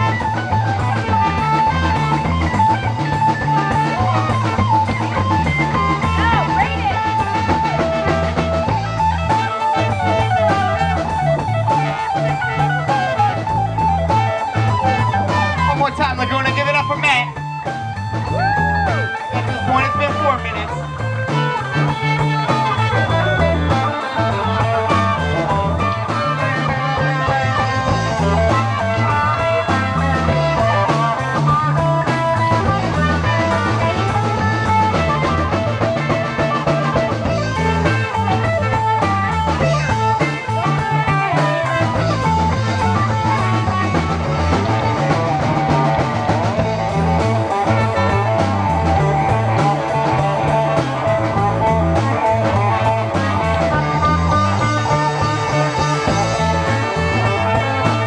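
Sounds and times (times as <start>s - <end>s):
live rock band playing: 0.0s - 58.0s
trumpet: 0.0s - 58.0s.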